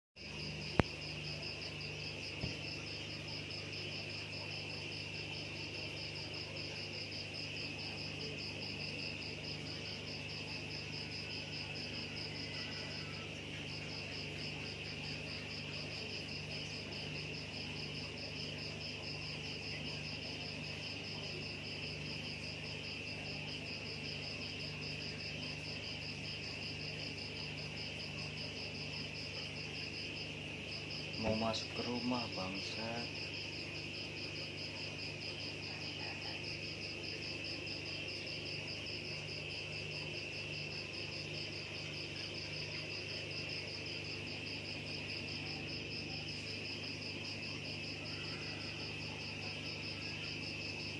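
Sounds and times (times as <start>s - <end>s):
crickets chirping: 0.2s - 50.9s
lower insect trill: 0.2s - 50.9s.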